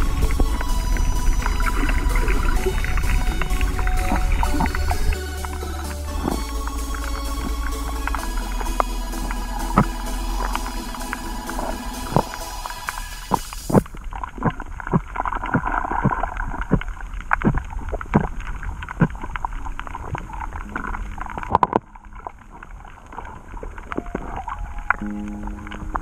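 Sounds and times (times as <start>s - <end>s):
sharp underwater clicks: 0.0s - 26.0s
underwater water rush: 0.0s - 26.0s.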